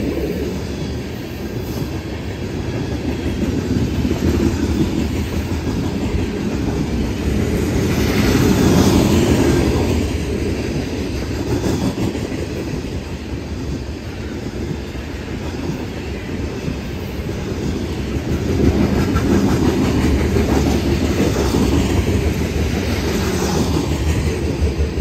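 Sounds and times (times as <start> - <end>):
freight train wheels clacking on rails: 0.0 - 25.0.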